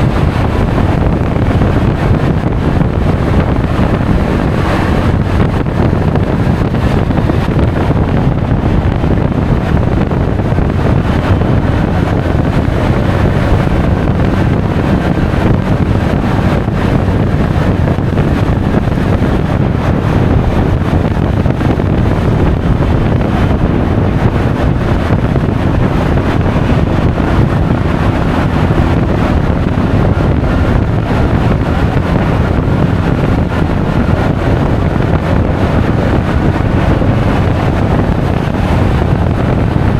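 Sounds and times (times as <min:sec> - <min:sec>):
road noise: 0:00.0 - 0:39.9
scooter engine: 0:00.0 - 0:39.9
wind on camera microphone: 0:00.0 - 0:39.9.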